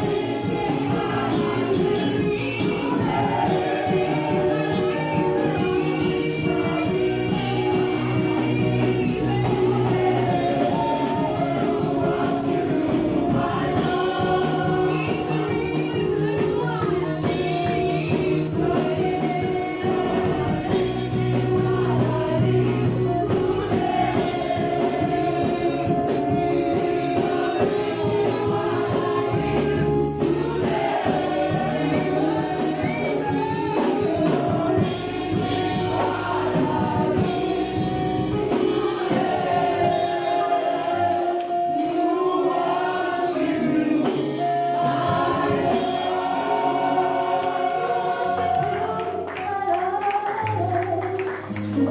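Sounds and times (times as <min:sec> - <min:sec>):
bass line: 0:00.0 - 0:51.9
choir singing gospel: 0:00.0 - 0:51.9.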